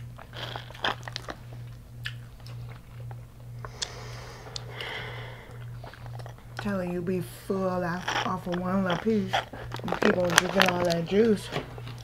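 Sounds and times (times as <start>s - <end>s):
chewing crunchy food: 0.0s - 12.0s
steady low hum: 0.0s - 12.0s.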